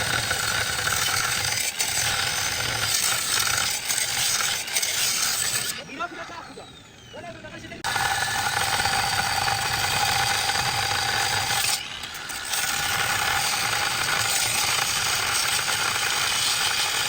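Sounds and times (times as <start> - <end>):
metal lathe grating: 0.0 - 7.0, 7.8 - 17.0.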